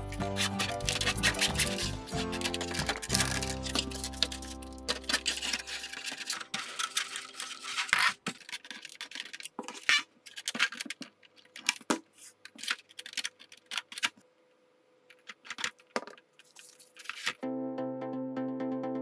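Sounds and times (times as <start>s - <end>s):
hands handling plastic model: 0.0s - 14.2s, 15.1s - 17.4s.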